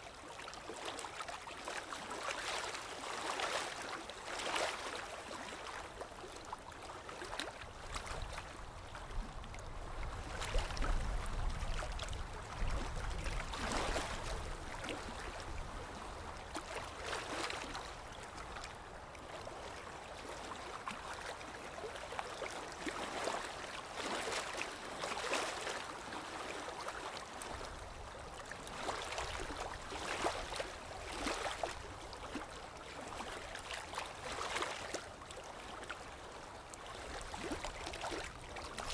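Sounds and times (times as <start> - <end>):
water lapping and splashing: 0.0 - 38.9.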